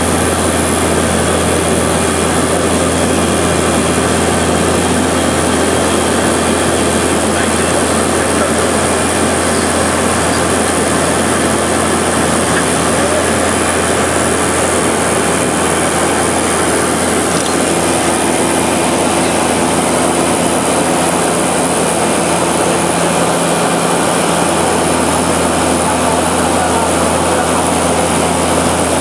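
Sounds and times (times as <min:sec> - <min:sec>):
propeller engines droning: 0:00.0 - 0:29.0.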